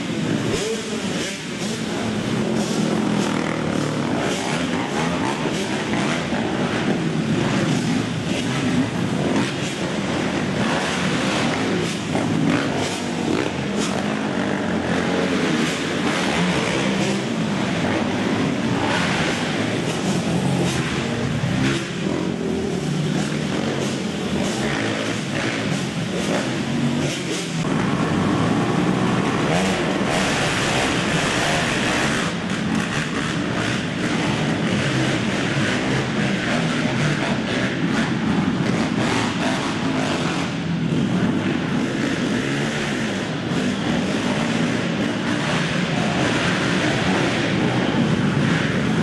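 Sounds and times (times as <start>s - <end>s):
quad engines revving: 0.0s - 49.0s.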